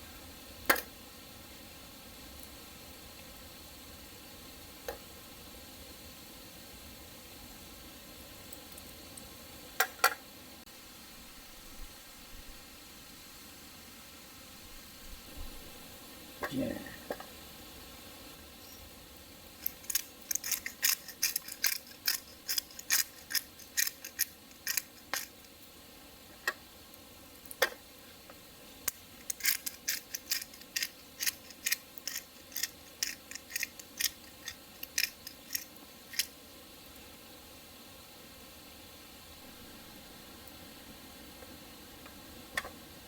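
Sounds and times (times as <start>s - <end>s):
faint steady hiss: 0.0s - 43.0s.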